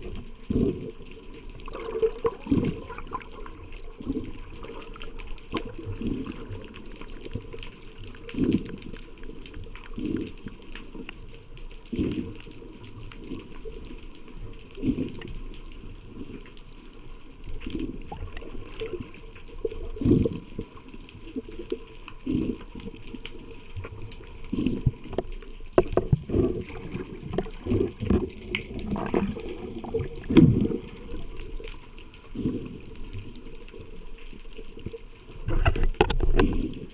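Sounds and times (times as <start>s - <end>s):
underwater water rushing: 0.0s - 36.9s.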